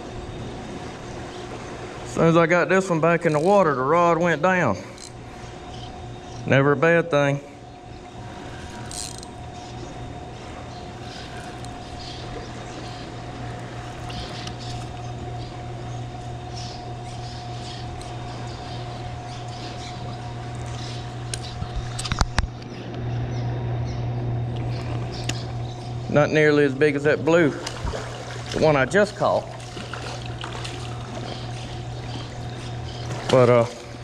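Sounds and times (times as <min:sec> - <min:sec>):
constant low hum: 0:00.0 - 0:34.0.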